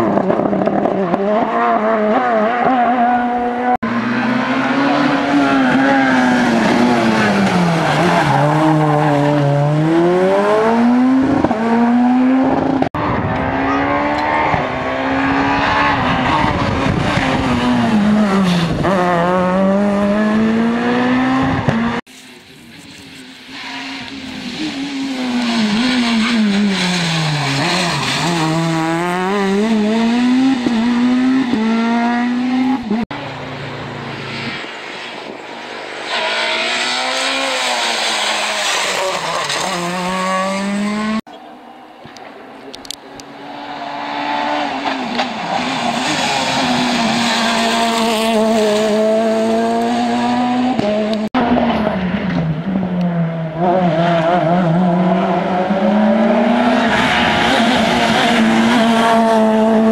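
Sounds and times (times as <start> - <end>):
rally car engines revving: 0.0 - 22.1, 23.0 - 41.3, 42.0 - 59.9.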